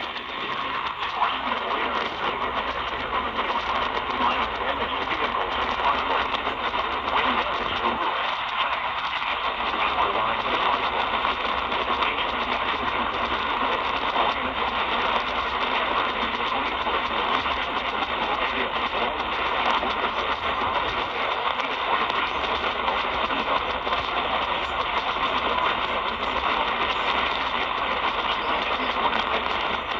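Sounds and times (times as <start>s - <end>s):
radio static hiss: 0.0s - 29.9s.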